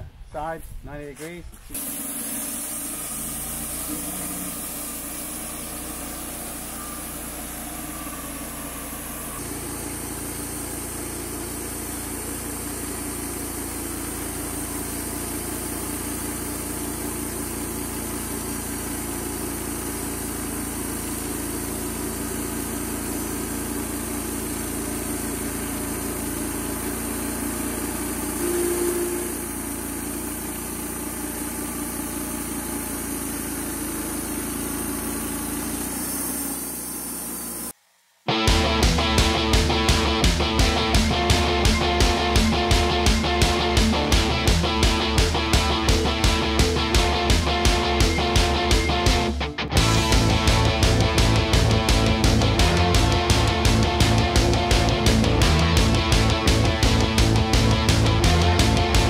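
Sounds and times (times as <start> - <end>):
sawmill engine droning: 1.7 - 59.0.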